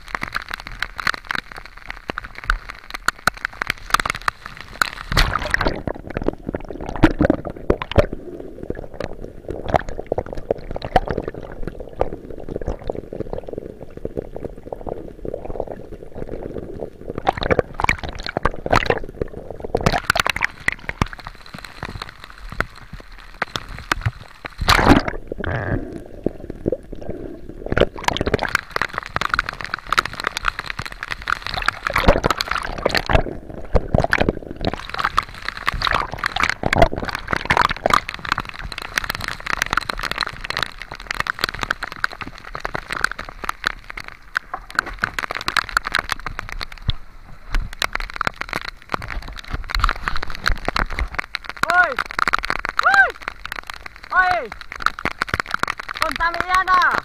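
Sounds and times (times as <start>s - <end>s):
water sloshing and gurgling: 0.0s - 57.0s
waves and rain splashing: 0.0s - 57.0s.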